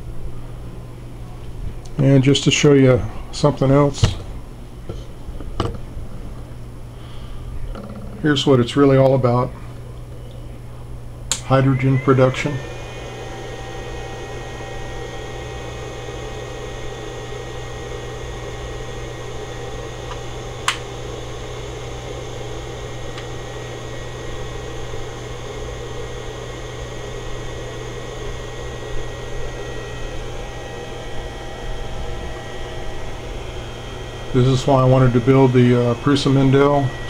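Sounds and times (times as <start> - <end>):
electrical hum and fan whir: 0.0 - 37.0.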